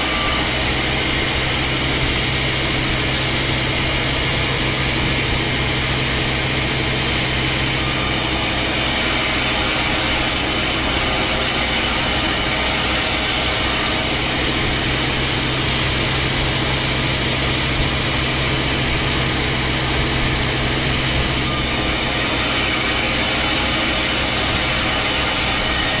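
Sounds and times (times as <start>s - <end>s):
saw whirring: 0.0s - 26.0s
sawing machine engine hum: 0.0s - 26.0s.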